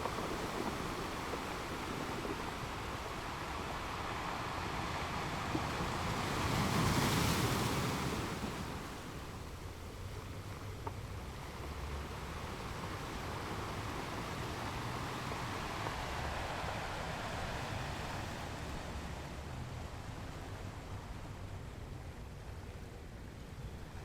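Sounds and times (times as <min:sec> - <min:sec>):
ocean surf on rocks: 0:00.0 - 0:24.0.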